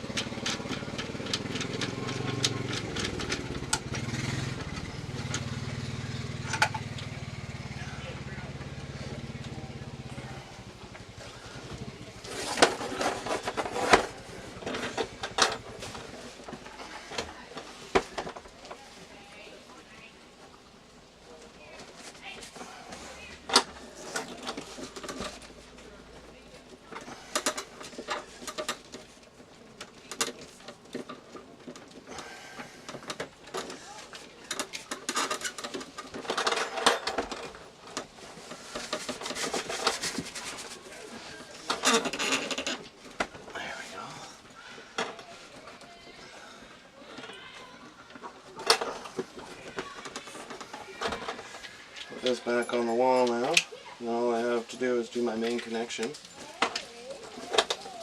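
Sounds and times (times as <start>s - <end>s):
tools and parts clattering: 0.0s - 19.2s, 21.4s - 58.0s.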